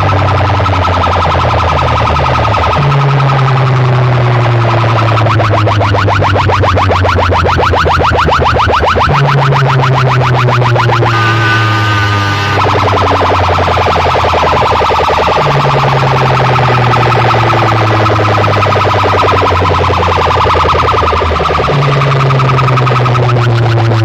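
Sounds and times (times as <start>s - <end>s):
heavy bass notes: 0.0s - 24.0s
pulsing siren-like electronic tone: 0.0s - 24.0s.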